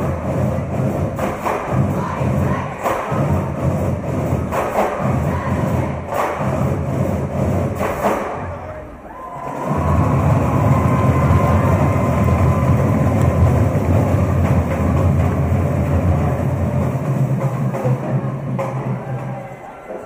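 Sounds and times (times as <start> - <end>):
school band playing with drums: 0.0 - 20.0.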